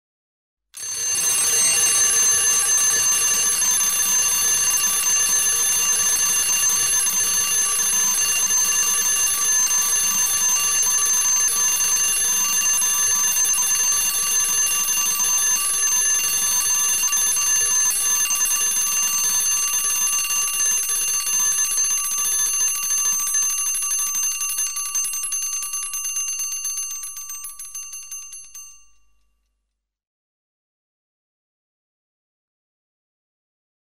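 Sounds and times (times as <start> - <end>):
alarm clock bell ringing: 0.8 - 29.2.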